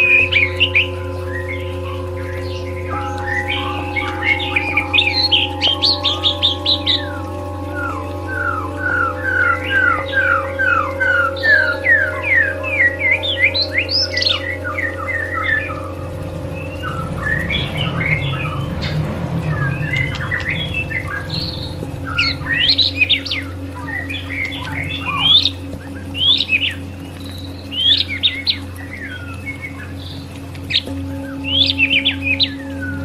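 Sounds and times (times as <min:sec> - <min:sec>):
bird singing whistles and chirps: 0:00.0 - 0:33.0
steady low hum: 0:00.0 - 0:33.0.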